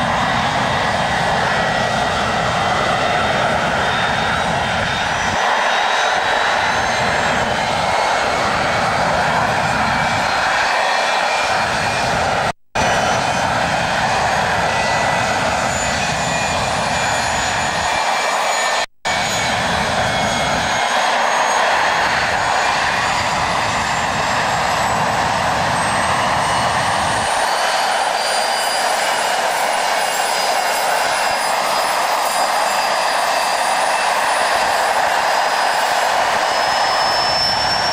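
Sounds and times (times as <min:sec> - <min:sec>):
high-pitched jet whines: 0:00.0 - 0:37.9
jet engine roar: 0:00.0 - 0:37.9.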